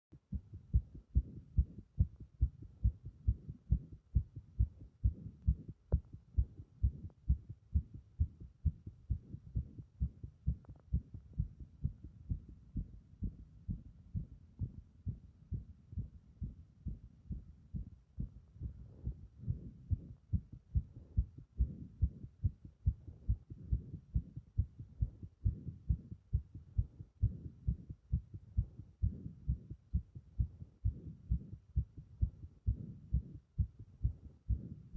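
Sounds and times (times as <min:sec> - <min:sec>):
fast heartbeat thumps: 0:00.2 - 0:34.9.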